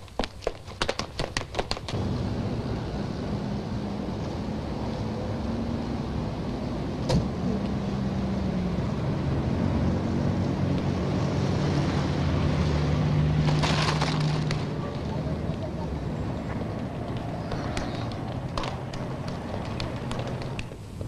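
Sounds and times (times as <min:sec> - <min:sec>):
vehicle engine running: 0:01.9 - 0:20.6.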